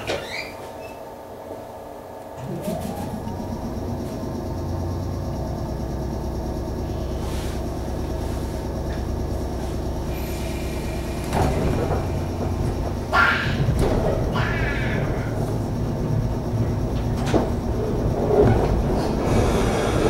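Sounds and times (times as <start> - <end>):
train low hum: 0.6 - 20.0
train moving off rush: 2.3 - 20.0.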